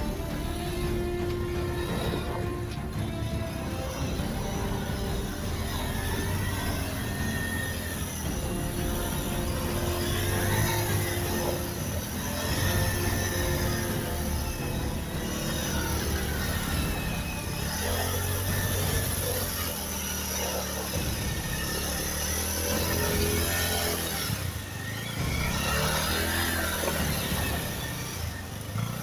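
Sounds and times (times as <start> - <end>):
motorcycle engine revving: 0.0 - 29.0
tyre spinning in wet mud: 0.0 - 29.0.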